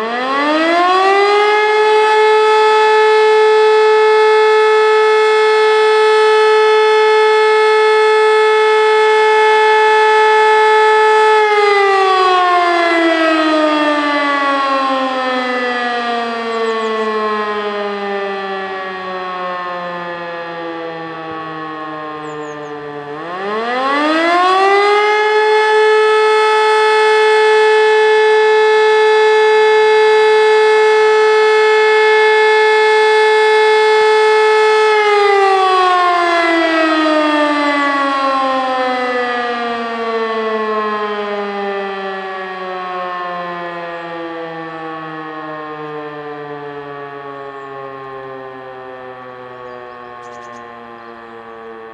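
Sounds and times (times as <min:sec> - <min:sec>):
electric motor siren wailing: 0:00.0 - 0:51.9.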